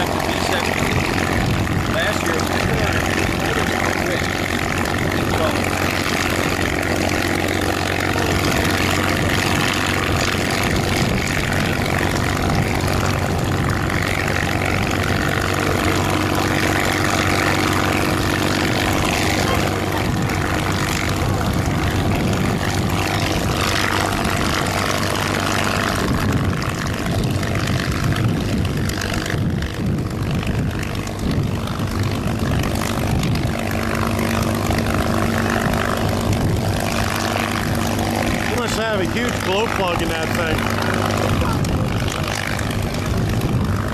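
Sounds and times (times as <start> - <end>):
propeller plane engine idling: 0.0 - 43.9.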